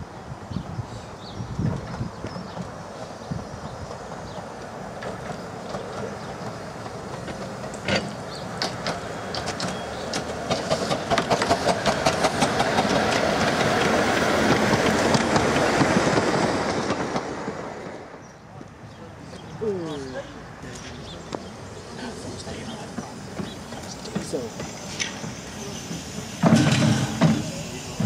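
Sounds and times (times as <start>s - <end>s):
steam train passing: 0.0s - 28.0s
wheels clicking over rail joints: 1.6s - 17.5s, 20.7s - 28.0s.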